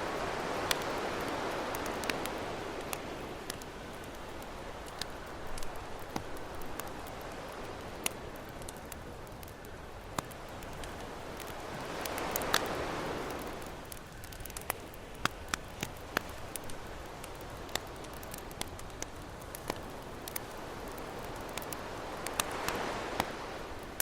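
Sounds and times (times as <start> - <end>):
campfire crackling and popping: 0.0 - 24.0
ocean waves washing on shore: 0.0 - 24.0.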